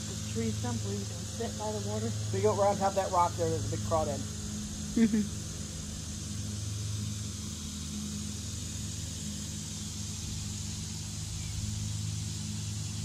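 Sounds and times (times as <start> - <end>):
faint high hiss: 0.0 - 13.0
low mechanical hum: 0.0 - 13.0.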